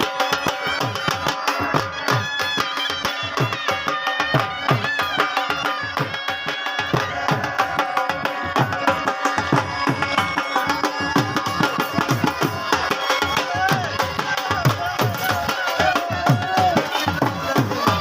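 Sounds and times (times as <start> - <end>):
continuous melody: 0.0 - 18.0.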